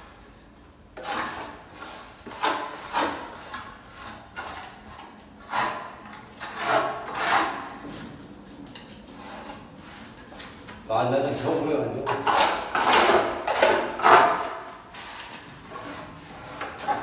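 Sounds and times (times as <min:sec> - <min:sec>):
trowel scraping mortar on wall: 0:01.0 - 0:10.2, 0:11.3 - 0:17.0.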